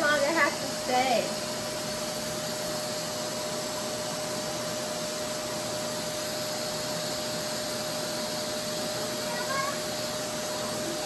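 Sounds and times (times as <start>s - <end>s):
hair dryer suction hiss and whine: 0.0s - 11.0s.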